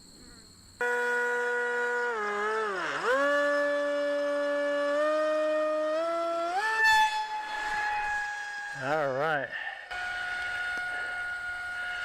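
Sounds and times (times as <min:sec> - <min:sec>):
model aircraft motor whining: 0:01.4 - 0:12.0.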